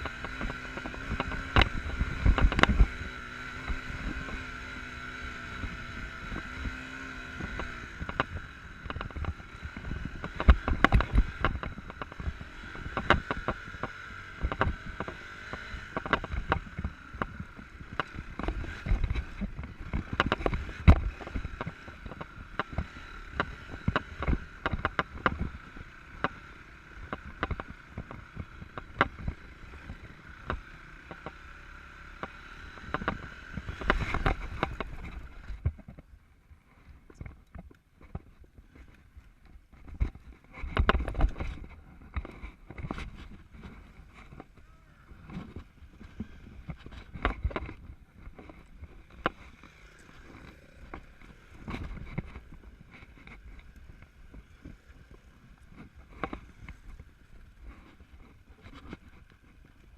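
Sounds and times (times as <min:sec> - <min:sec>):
knocks and clatters over rough ground: 0:00.0 - 0:59.9
motorcycle engine whine: 0:00.0 - 0:59.9.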